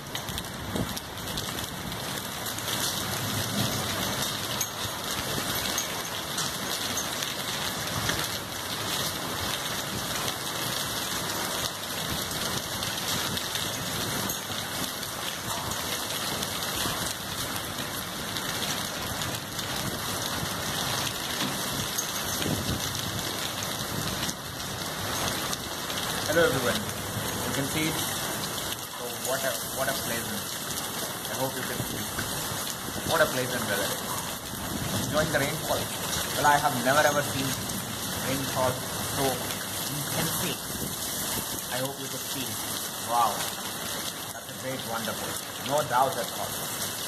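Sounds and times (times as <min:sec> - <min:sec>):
heavy rain pouring: 0:00.0 - 0:47.0.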